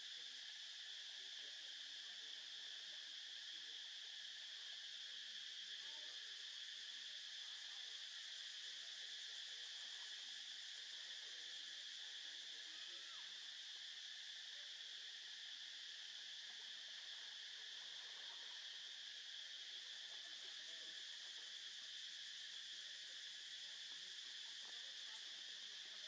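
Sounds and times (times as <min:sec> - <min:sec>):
insect chorus drone: 0:00.0 - 0:26.0.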